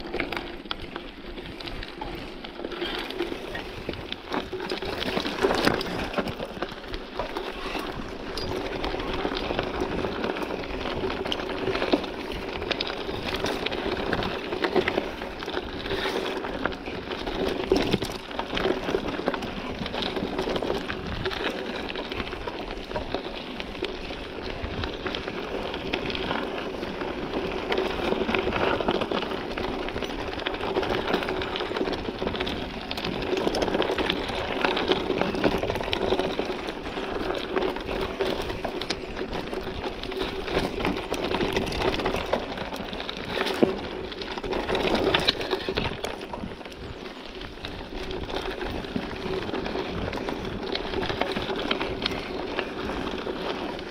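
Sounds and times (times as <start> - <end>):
bike rattling and knocking: 0.0 - 53.9
bike tyres on dirt: 0.0 - 53.9.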